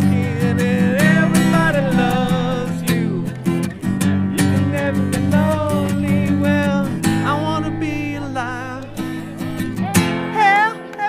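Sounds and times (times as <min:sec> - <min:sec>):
strummed acoustic guitar: 0:00.0 - 0:11.0
wavering melody line: 0:00.7 - 0:10.4.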